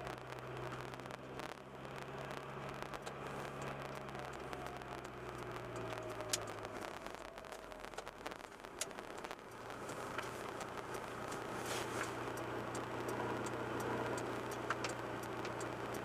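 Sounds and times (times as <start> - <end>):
car engine and road hum: 0.0 - 16.0
sharp clicks: 0.1 - 16.0.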